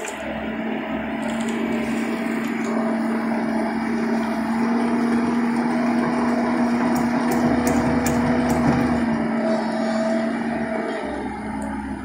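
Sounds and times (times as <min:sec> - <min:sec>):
diesel engine humming: 0:00.0 - 0:12.0
hydraulic bucket lifting: 0:00.0 - 0:12.0.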